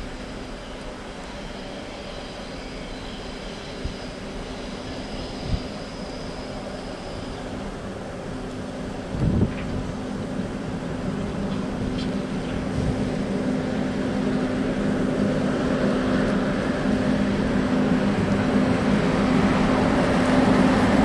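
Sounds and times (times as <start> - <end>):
freight train passing: 0.0 - 21.0
locomotive hum: 0.0 - 21.0.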